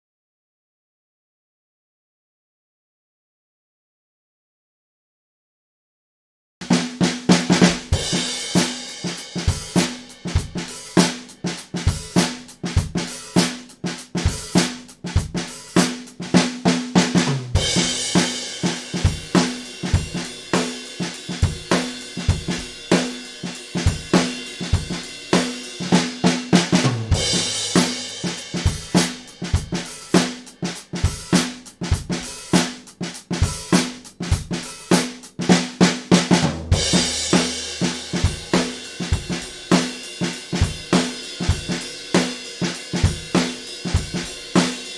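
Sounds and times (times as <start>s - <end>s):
rock drum groove: 6.6s - 44.9s.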